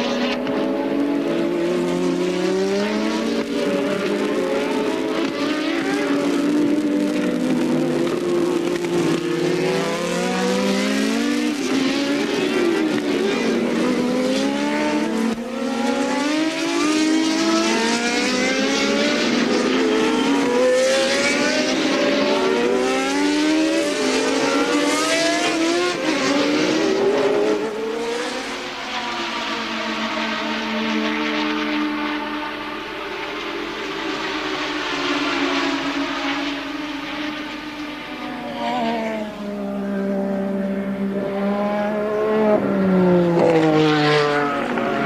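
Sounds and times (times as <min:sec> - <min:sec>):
racing car engines revving: 0:00.0 - 0:45.0.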